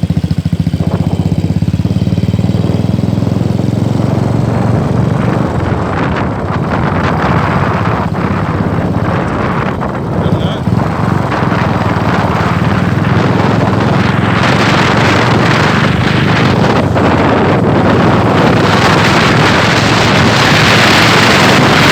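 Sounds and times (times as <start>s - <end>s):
motorcycle engine running: 0.0s - 21.9s
wind noise on microphone: 0.0s - 21.9s.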